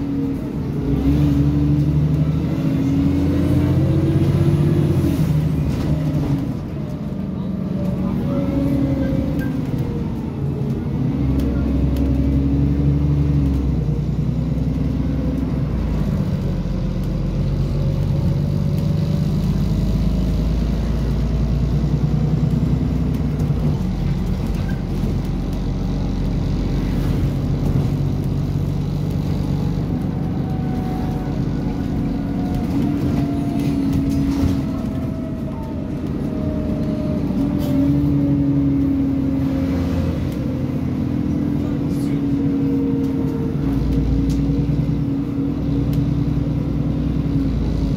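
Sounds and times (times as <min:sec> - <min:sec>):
bus engine: 0:00.0 - 0:47.9.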